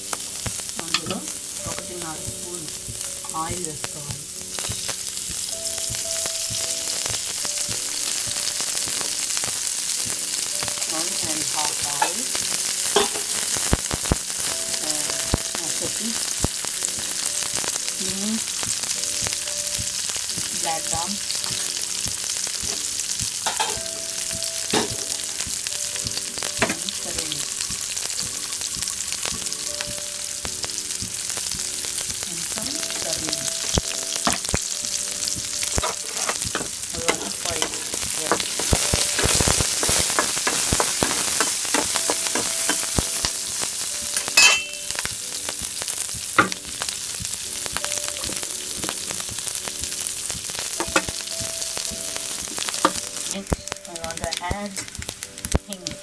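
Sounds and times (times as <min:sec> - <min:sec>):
spices sizzling in hot oil: 0:00.0 - 0:56.0.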